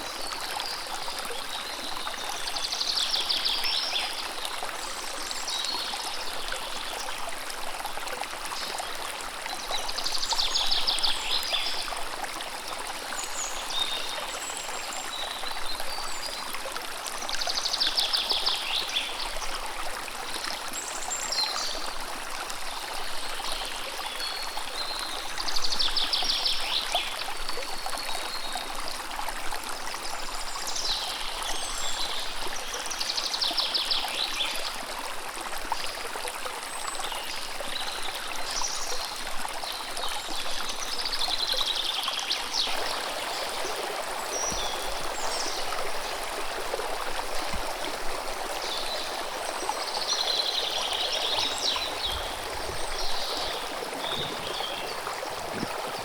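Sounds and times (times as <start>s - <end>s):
stream running: 0.0s - 56.0s.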